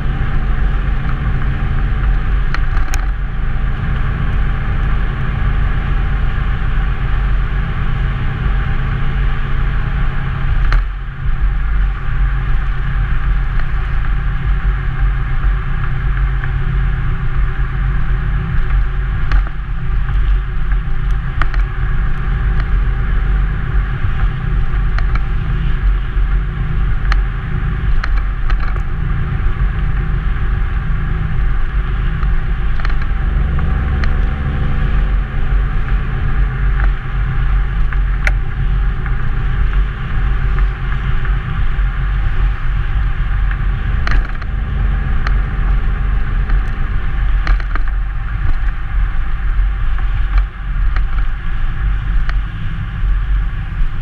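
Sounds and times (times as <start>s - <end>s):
car exhaust droning: 0.0s - 54.0s.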